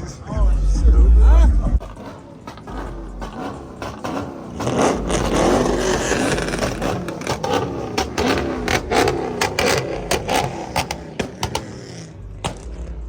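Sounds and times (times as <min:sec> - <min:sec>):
car engine revving hard: 0:01.4 - 0:13.0
exhaust pops: 0:01.4 - 0:13.0.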